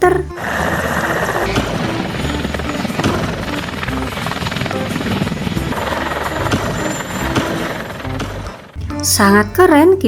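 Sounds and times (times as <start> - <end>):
faint music: 0.0 - 10.0
helicopter rotor chopping: 0.1 - 9.7.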